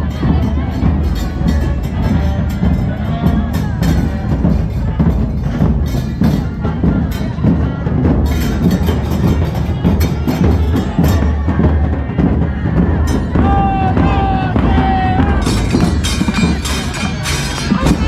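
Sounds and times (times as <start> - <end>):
drum group playing percussion: 0.0 - 18.0.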